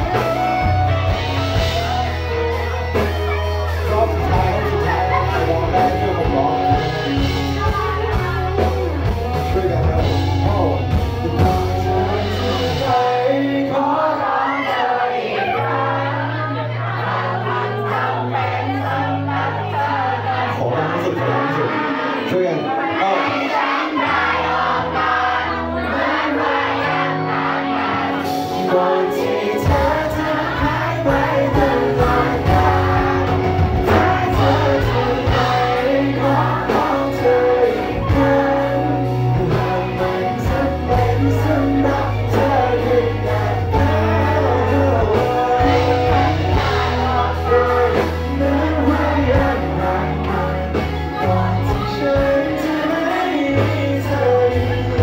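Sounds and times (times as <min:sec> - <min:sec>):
sustained bass line: 0:00.0 - 0:14.2, 0:24.1 - 0:55.0
person singing: 0:00.0 - 0:55.0.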